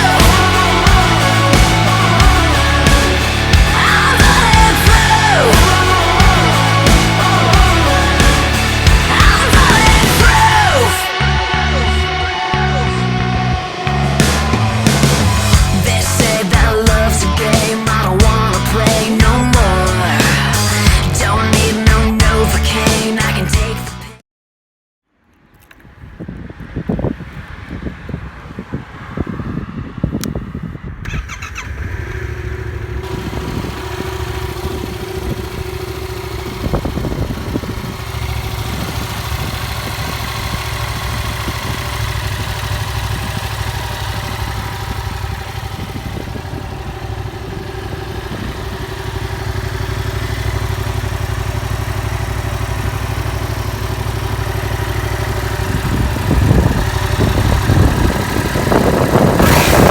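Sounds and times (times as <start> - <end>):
motorcycle engine idling: 0.0 - 11.9, 12.6 - 24.0, 31.0 - 59.9
engine revving: 0.0 - 24.0, 31.0 - 59.9
motorcycle engine starting: 0.0 - 24.1, 30.2 - 59.9.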